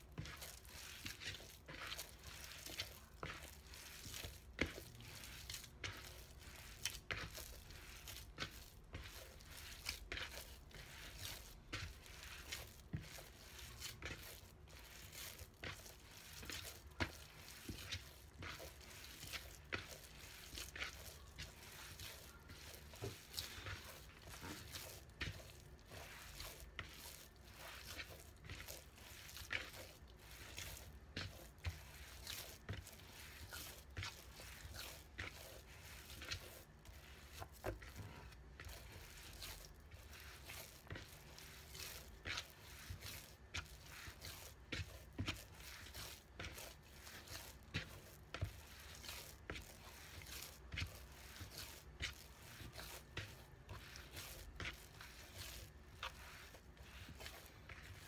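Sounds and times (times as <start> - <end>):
dough squishing in a bowl: 0.0 - 58.0.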